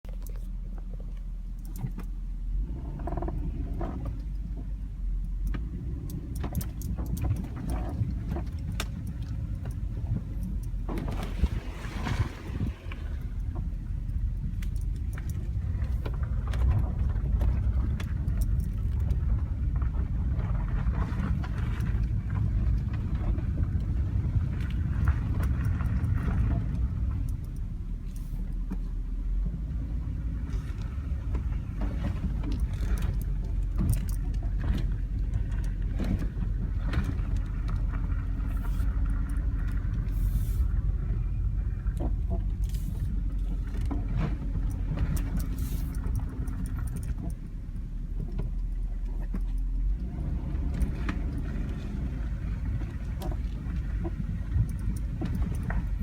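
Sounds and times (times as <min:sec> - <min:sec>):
car interior creaks and clicks: 0:00.0 - 0:56.0
car road rumble: 0:00.0 - 0:56.0.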